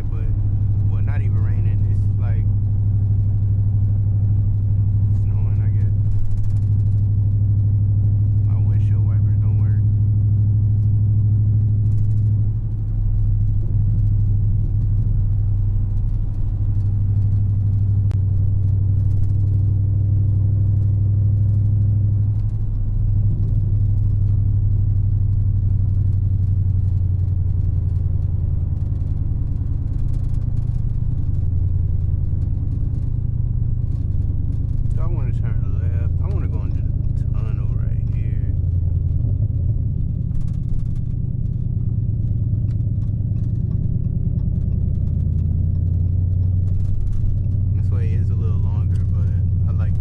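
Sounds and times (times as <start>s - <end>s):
car engine droning at cruise: 0.0s - 50.0s.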